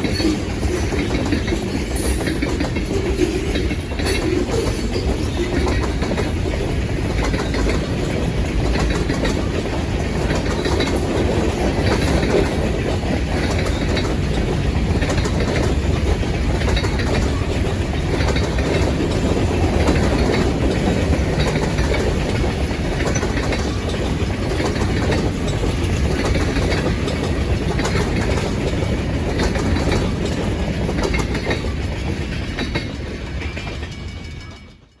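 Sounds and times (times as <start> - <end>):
train wheels clicking over rail joints: 0.0 - 35.0.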